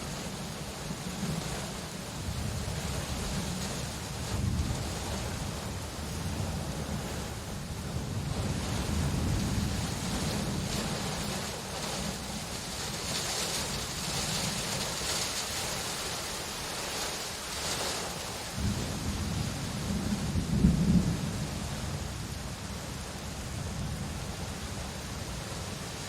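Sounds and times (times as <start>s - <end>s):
low rumble of thunder: 0.0s - 15.8s, 18.4s - 25.8s
steady rain hissing: 0.0s - 26.0s.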